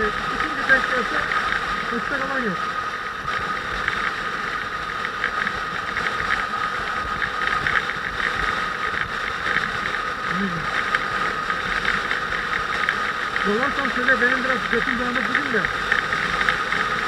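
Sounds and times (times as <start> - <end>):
motorcycle engine whine: 0.0 - 17.0
road and wind noise: 0.0 - 17.0.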